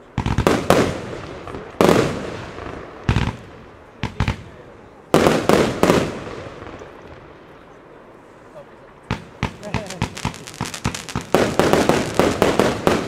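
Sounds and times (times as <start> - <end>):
fireworks bangs: 0.0 - 7.6, 9.0 - 13.0.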